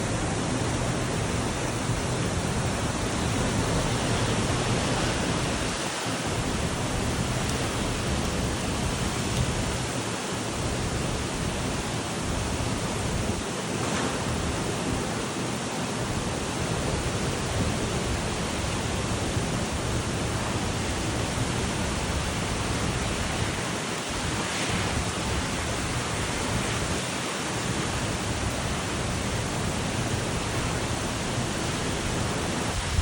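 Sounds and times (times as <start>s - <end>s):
low rumble of gusts: 0.0s - 15.4s, 16.0s - 33.0s
wind and driving rain: 0.0s - 33.0s.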